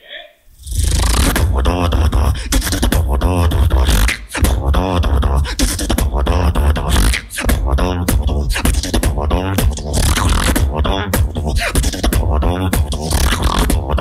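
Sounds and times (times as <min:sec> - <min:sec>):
wavering pitched vocal line: 0:00.0 - 0:14.0
beatboxing deep bass: 0:00.5 - 0:14.0
percussive beatbox strokes: 0:00.6 - 0:14.0.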